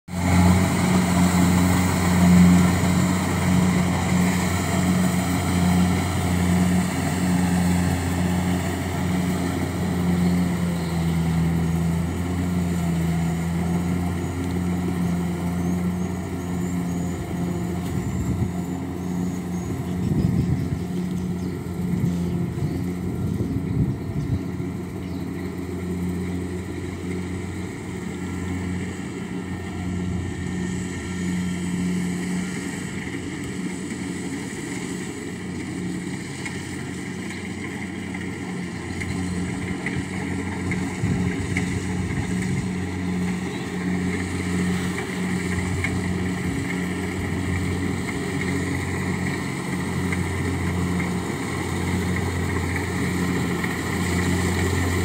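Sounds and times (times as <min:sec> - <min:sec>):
harvester engine humming: 0:00.1 - 0:55.0.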